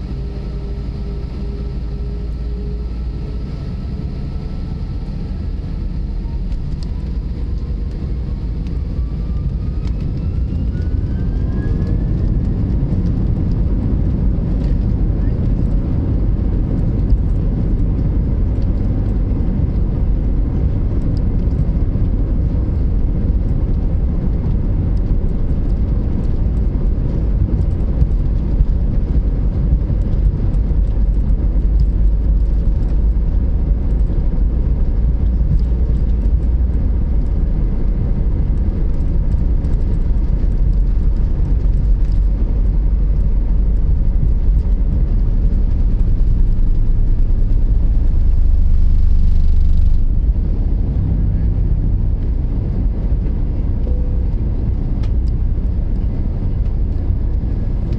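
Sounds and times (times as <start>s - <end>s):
jet engine cabin rumble: 0.0s - 57.9s.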